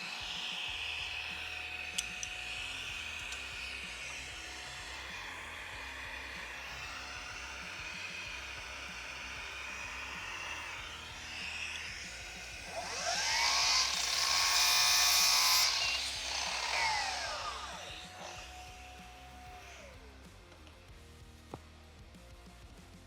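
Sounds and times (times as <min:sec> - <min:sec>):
saw cutting through timber: 0:00.0 - 0:20.5
mitre saw whining: 0:00.0 - 0:20.8
background music: 0:00.0 - 0:23.0.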